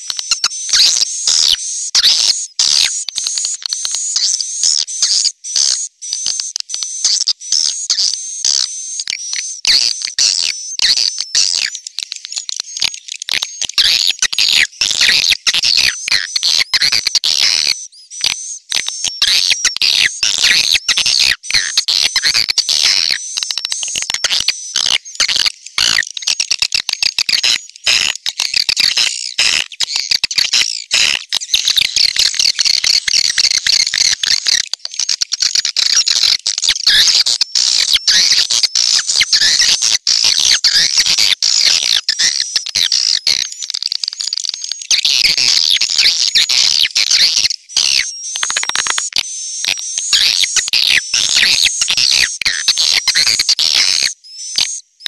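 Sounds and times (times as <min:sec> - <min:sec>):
chorus of twittering bird chirps: 0:00.0 - 0:55.0.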